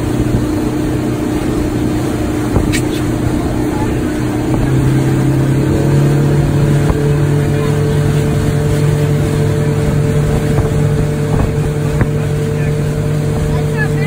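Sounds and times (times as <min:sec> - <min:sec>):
motorboat engine running: 0:00.0 - 0:14.0
rushing wake: 0:00.0 - 0:14.0
wind: 0:00.0 - 0:14.0.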